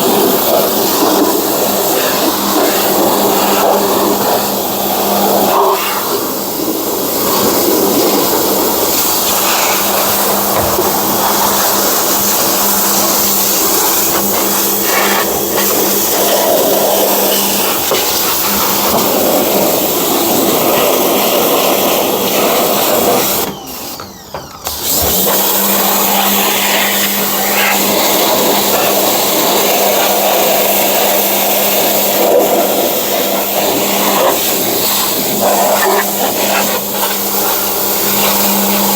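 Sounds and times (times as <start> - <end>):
pressure washer spraying water: 0.0 - 38.9
pump hum: 0.0 - 38.9.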